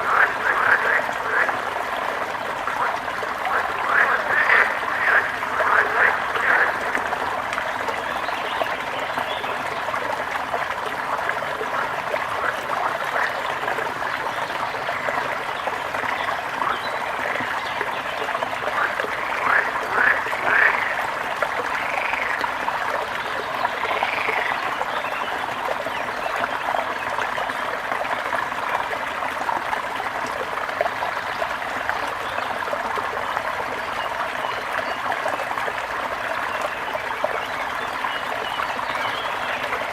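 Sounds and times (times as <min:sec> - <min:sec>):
water splashing and running: 0:00.0 - 0:39.9.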